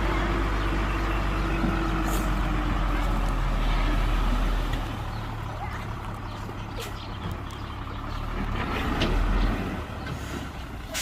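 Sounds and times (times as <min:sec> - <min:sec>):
diesel machinery running: 0:00.0 - 0:11.0.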